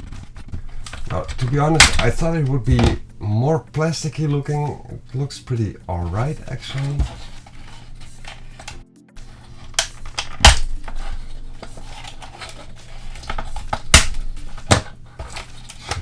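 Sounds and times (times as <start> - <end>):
plastic toy and packaging clattering: 0.0 - 3.0, 6.1 - 16.0.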